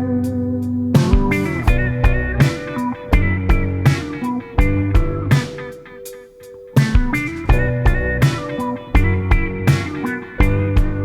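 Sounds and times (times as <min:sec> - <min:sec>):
bass: 0:00.0 - 0:05.8, 0:06.8 - 0:11.0
electric guitar picked notes: 0:00.0 - 0:11.0
drum beat: 0:01.0 - 0:05.8, 0:06.8 - 0:11.0.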